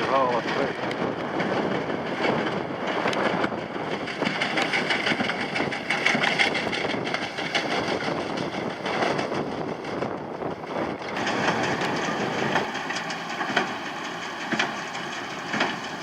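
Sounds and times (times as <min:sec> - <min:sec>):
hay baler clattering: 0:00.0 - 0:16.0
tractor diesel engine running: 0:00.0 - 0:16.0.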